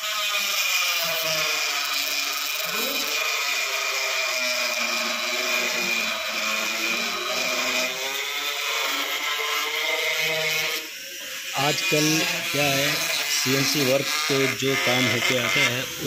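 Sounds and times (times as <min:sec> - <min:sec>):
rotary grinder sanding wood: 0:00.0 - 0:16.0.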